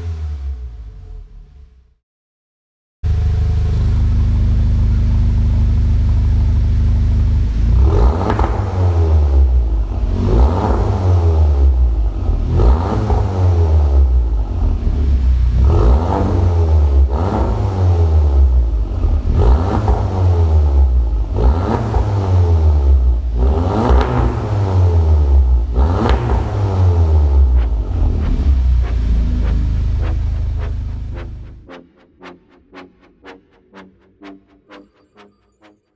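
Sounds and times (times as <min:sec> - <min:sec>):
car engine revving: 0:00.0 - 0:01.8, 0:03.1 - 0:33.8
low exhaust drone: 0:03.0 - 0:34.0.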